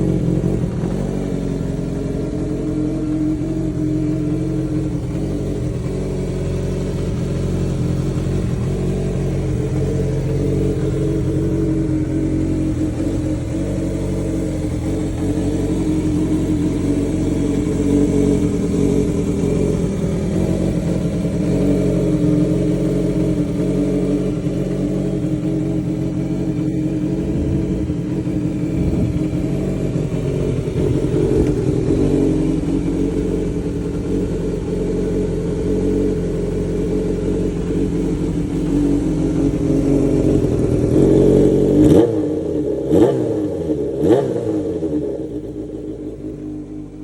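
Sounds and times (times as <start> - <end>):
motorcycle engine idling: 0.0 - 47.0
motorcycle throttle blips: 0.0 - 47.0.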